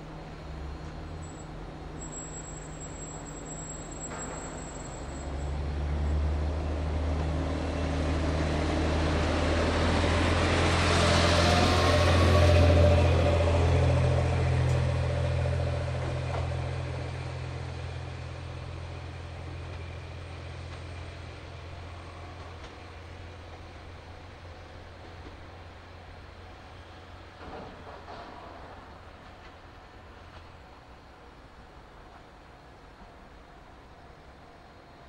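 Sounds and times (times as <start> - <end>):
diesel railcar engine drone: 0.0 - 35.0.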